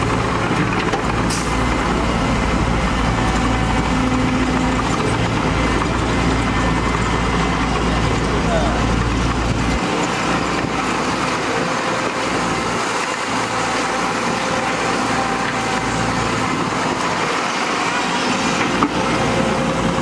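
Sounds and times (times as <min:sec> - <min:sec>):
excavator diesel engine working: 0:00.0 - 0:20.0.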